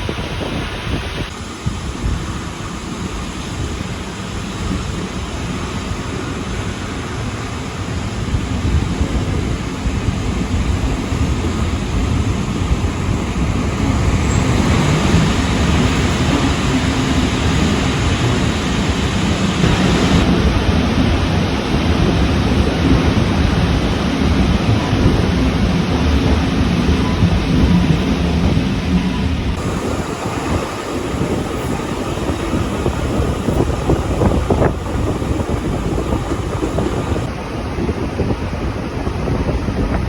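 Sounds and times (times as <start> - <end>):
train wheels rumbling on rails: 1.2 - 37.8.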